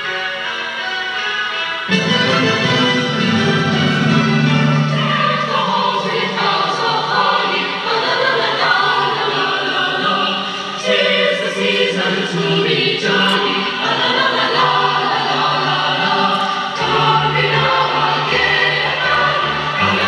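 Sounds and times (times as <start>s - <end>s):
choir singing a carol: 0.0s - 20.0s.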